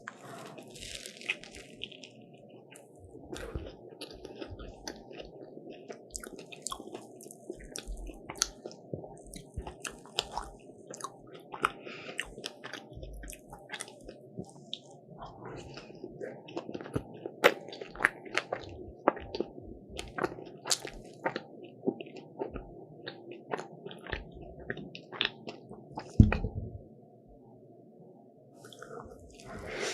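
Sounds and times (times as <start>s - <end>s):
person chewing crisp pastry: 0.0s - 26.5s, 28.6s - 29.9s.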